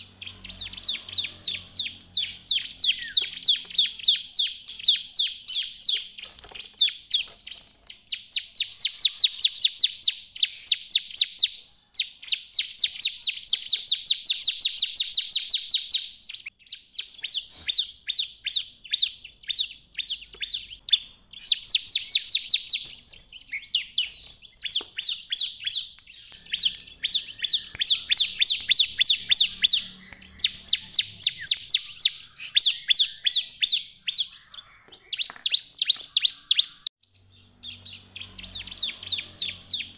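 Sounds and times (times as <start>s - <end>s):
bird singing fast sharp chirps: 0.0s - 39.9s.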